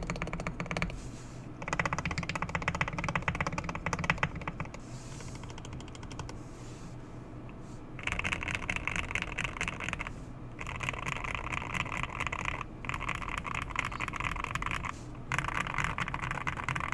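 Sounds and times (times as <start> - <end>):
fast typing on mechanical keyboard: 0.0 - 1.0, 1.6 - 6.4, 8.0 - 16.9.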